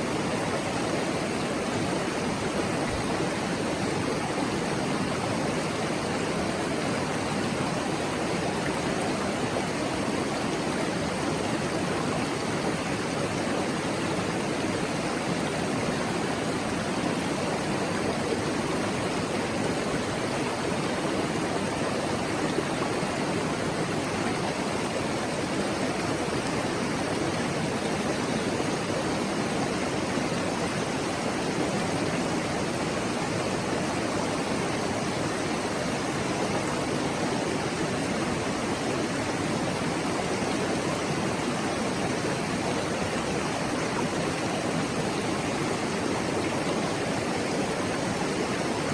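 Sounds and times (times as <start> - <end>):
mountain stream babbling: 0.0 - 48.9.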